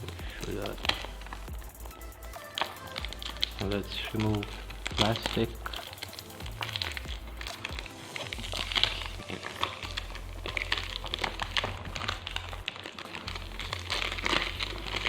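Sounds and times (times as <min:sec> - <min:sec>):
plastic wrap crinkling: 0:00.0 - 0:15.0
quiet background music: 0:00.0 - 0:15.0.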